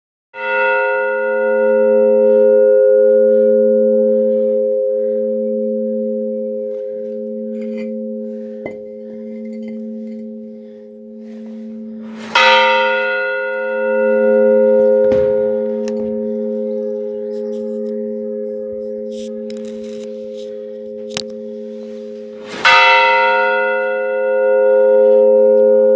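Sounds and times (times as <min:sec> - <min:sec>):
large church bell ringing: 0:00.4 - 0:25.9.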